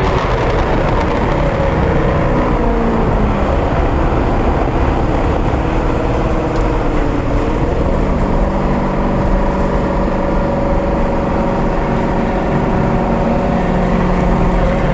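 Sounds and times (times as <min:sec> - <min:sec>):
car exhaust engine note: 0:00.0 - 0:14.9.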